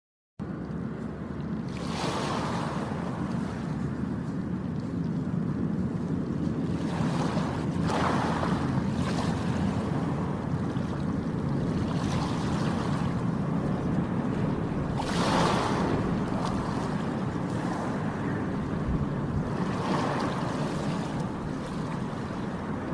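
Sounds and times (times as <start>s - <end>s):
wind rumble on microphone: 0.4s - 22.9s
sea waves breaking: 0.5s - 22.9s.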